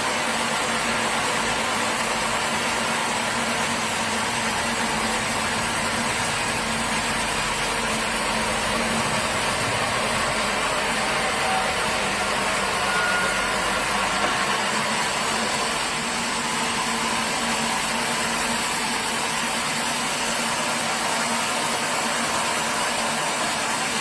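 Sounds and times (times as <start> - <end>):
sawmill machinery drone: 0.0 - 24.0.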